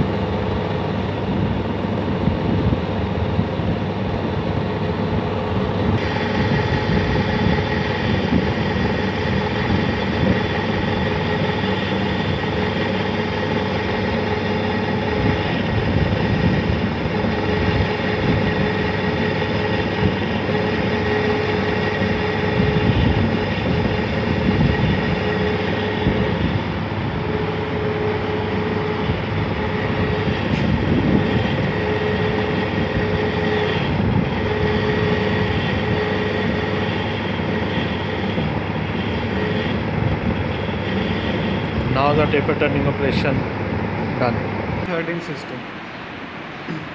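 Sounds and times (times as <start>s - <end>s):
lathe motor humming and whining: 0.0s - 46.9s.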